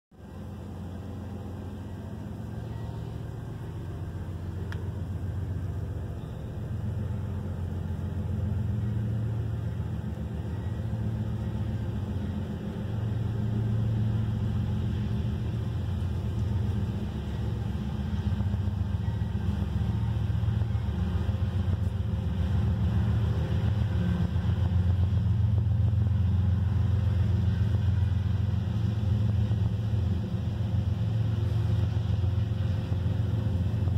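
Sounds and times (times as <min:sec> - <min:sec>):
steady low rumble: 0:00.1 - 0:33.9.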